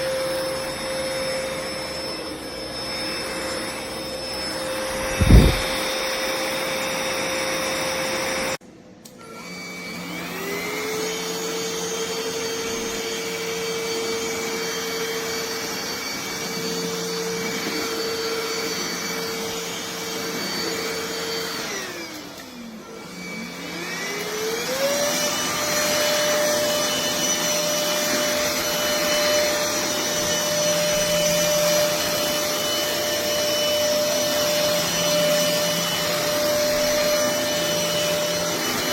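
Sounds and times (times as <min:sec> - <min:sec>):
stick vacuum motor whining: 0:00.0 - 0:38.9.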